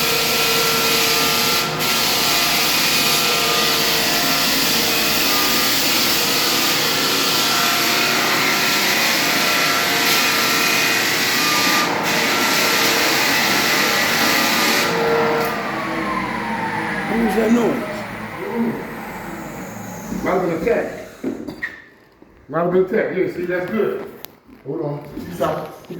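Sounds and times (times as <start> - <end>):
floor sanding machine: 0.0 - 21.5.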